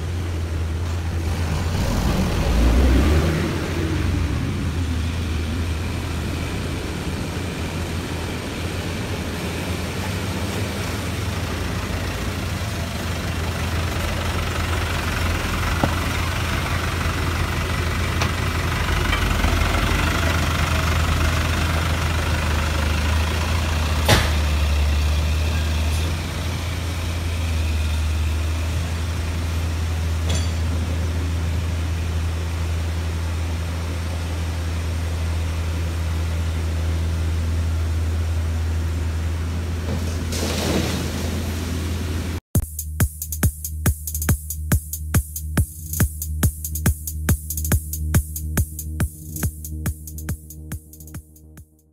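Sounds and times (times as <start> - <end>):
diesel engines droning: 0.0 - 42.4, 44.6 - 51.9.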